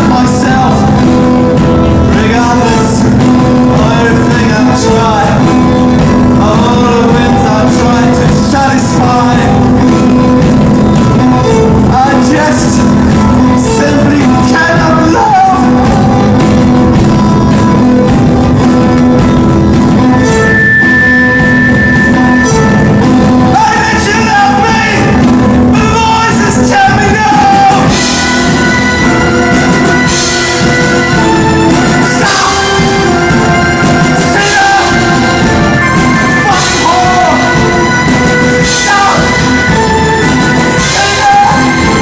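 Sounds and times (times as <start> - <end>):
live rock band with vocals: 0.0 - 42.0.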